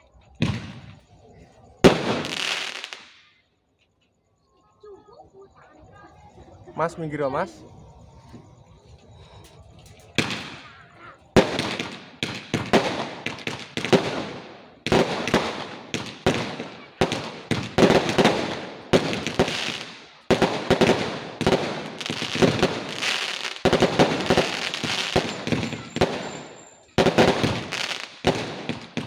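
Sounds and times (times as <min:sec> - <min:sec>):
fireworks bangs and crackling: 0:00.0 - 0:03.3, 0:08.2 - 0:29.0.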